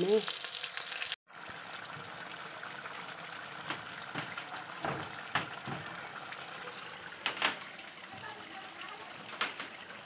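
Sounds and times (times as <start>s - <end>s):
curry bubbling and sizzling: 0.0s - 10.0s.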